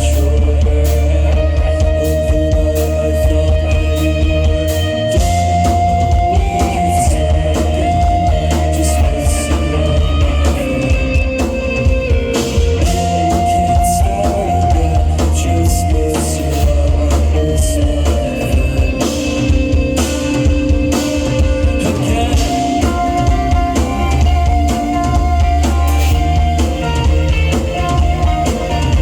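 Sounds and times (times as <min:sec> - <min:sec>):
bass guitar: 0:00.0 - 0:29.0
drum kit: 0:00.0 - 0:29.0
electric guitar: 0:00.0 - 0:29.0.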